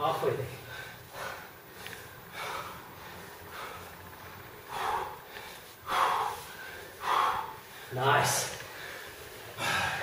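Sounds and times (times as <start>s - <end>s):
person breathing heavily: 0.4s - 10.0s.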